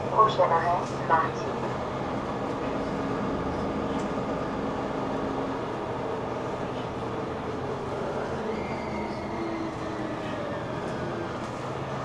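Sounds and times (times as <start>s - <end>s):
bus interior drivetrain hum: 0.0s - 12.0s.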